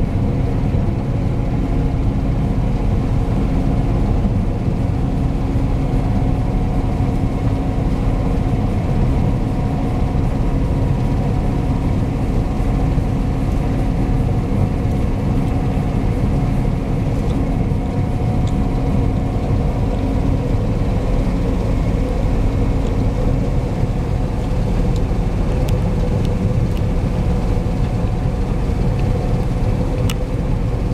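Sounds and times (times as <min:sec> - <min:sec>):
combine harvester droning: 0:00.0 - 0:30.9.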